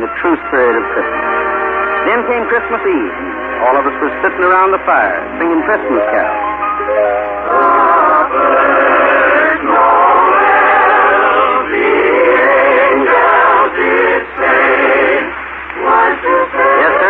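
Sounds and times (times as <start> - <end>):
voices singing a carol on old radio: 0.0 - 17.0.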